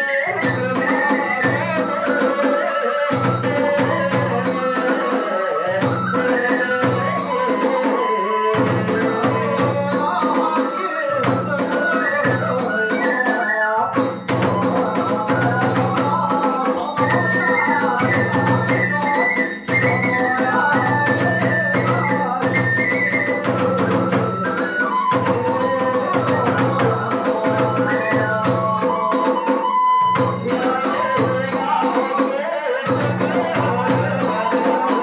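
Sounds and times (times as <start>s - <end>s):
bamboo flute melody: 0.0s - 35.0s
drum beats: 0.0s - 35.0s.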